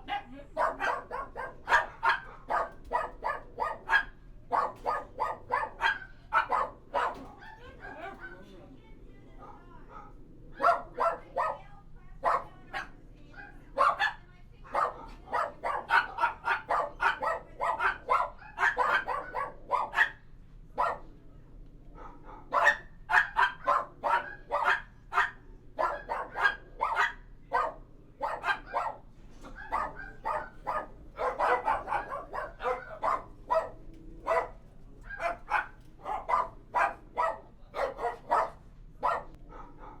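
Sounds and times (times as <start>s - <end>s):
dogs barking: 0.0s - 8.4s, 9.4s - 11.6s, 12.2s - 20.2s, 20.8s - 21.1s, 22.0s - 40.0s.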